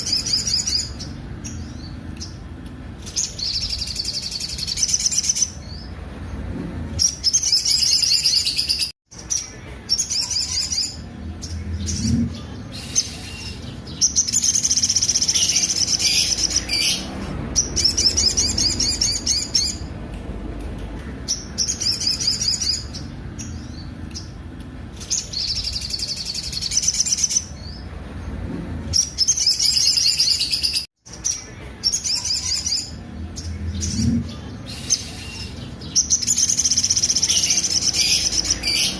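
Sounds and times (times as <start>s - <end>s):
bird singing harsh chips: 0.0s - 6.4s, 7.0s - 20.0s, 21.0s - 28.3s, 28.9s - 38.9s.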